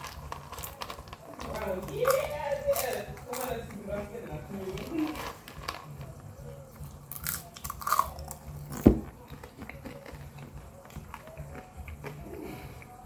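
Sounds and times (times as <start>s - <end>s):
chewing popcorn: 0.0s - 13.0s.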